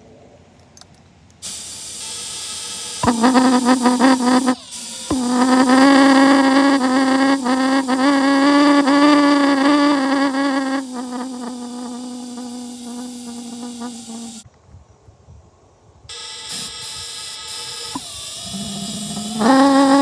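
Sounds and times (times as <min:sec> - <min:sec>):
pulse jet buzzing: 0:01.4 - 0:14.4, 0:16.4 - 0:20.0.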